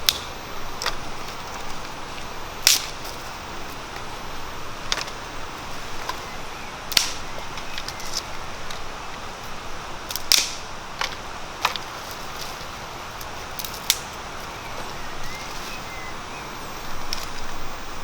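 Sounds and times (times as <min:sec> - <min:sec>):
outdoor background hiss: 0:00.0 - 0:18.0
sharp snaps: 0:00.0 - 0:18.0.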